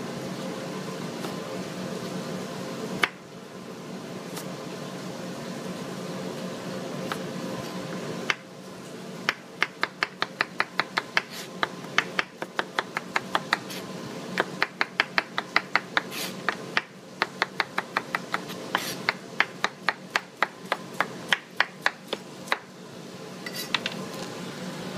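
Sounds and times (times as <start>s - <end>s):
steady background hum: 0.0s - 24.9s.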